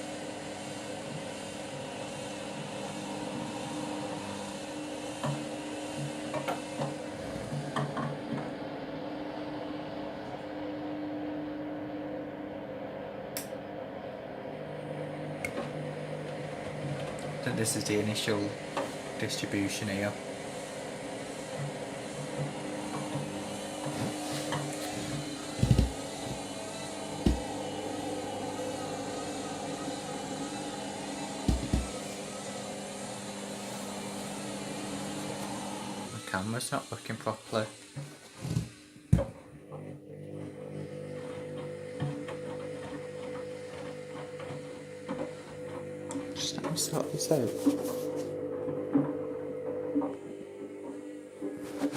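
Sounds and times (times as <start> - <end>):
washing machine drum motor humming: 0.0 - 51.9.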